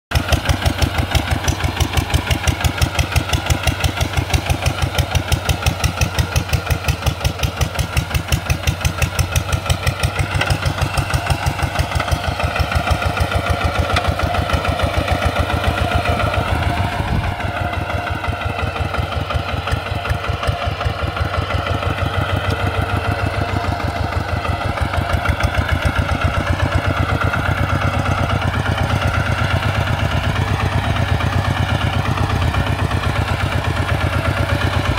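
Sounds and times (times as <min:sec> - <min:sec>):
diesel engine running steadily: 0:00.1 - 0:34.9.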